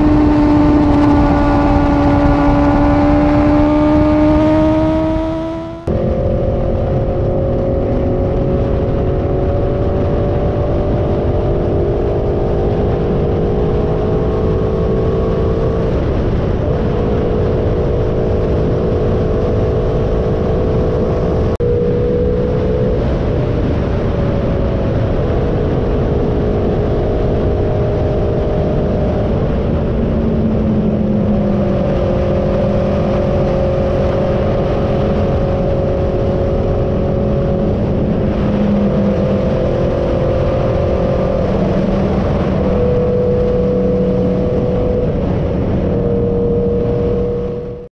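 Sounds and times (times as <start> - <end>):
motorcycle engine at speed: 0.0 - 47.9
wind and road noise: 0.0 - 47.9.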